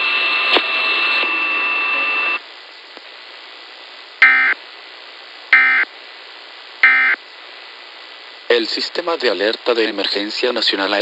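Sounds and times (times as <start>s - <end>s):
steady high whine: 0.0s - 9.7s
hissy broadcast background: 0.0s - 11.0s.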